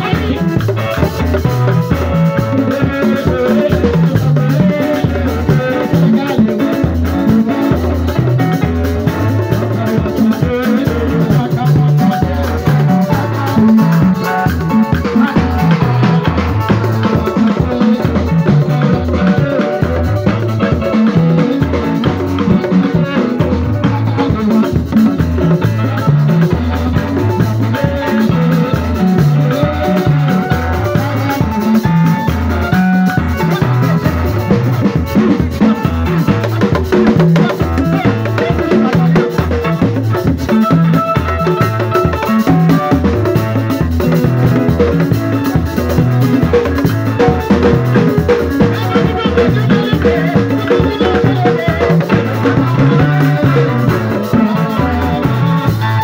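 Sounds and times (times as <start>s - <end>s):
live band music: 0.0s - 56.0s.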